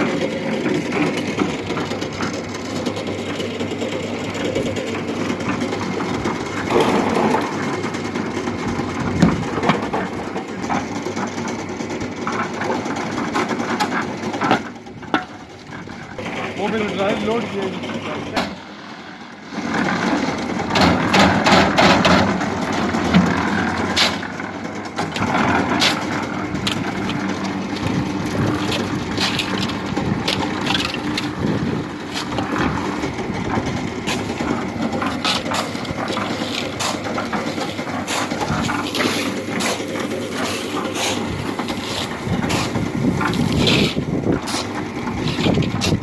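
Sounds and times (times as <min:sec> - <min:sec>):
concrete mixer running: 0:00.0 - 0:46.0.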